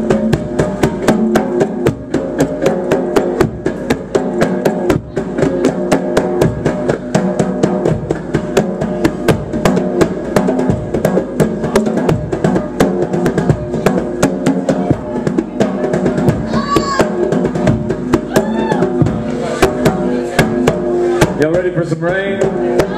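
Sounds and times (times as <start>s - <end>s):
fast hand drum solo: 0.0s - 22.9s.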